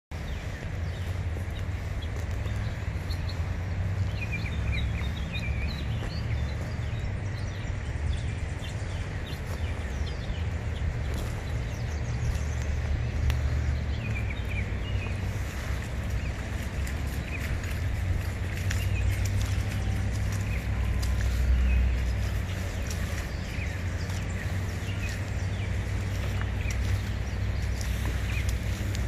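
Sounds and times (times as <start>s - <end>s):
birds chirping: 0.1s - 29.0s
wind buffeting microphone: 0.1s - 29.0s.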